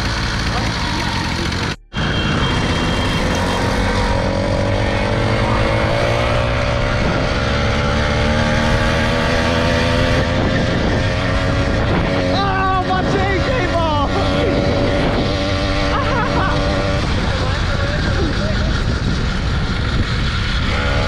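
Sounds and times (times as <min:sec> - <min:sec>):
small motorbike engine running: 0:00.0 - 0:21.0.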